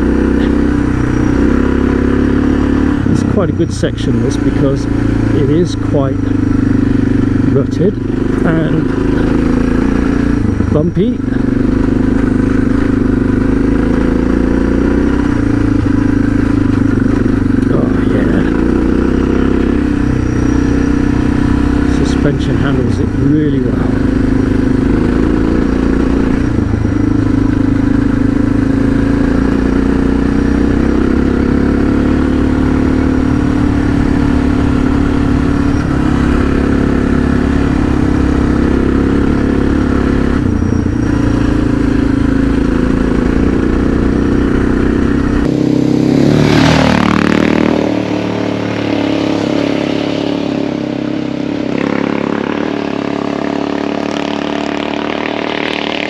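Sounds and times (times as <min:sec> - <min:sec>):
heavy low rumble: 0:00.0 - 0:45.5
motorcycle clattering over bumps: 0:00.0 - 0:47.7
motorcycle engine running: 0:00.0 - 0:56.0.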